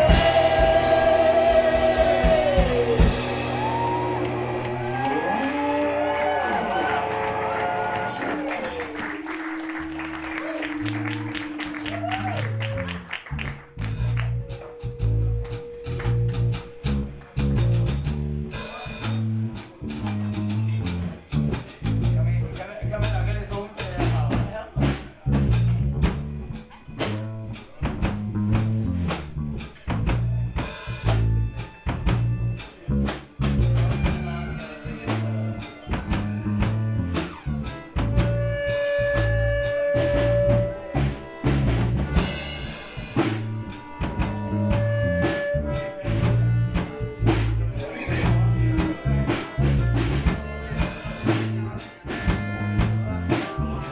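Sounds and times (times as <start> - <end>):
drum kit beat: 0.0 - 53.9
rock band playing: 0.0 - 53.9.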